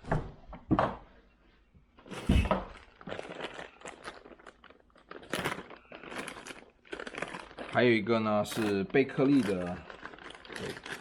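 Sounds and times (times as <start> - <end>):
plastic packaging crinkling: 2.0 - 11.0.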